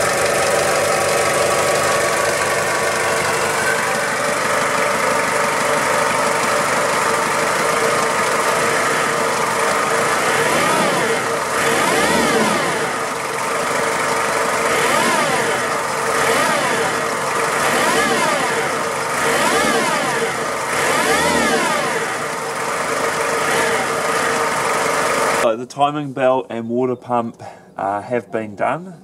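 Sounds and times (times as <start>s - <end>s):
diesel engine idling: 0.0s - 25.5s.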